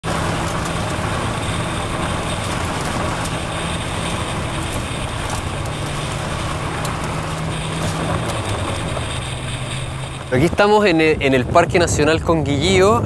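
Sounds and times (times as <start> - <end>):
tyres on gravel road: 0.0 - 13.0
vehicle engine hum: 0.0 - 13.0.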